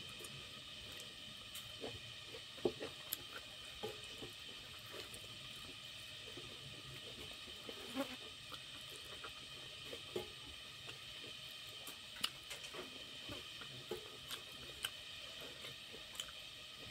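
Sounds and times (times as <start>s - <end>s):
faint steady hiss: 0.0s - 16.9s.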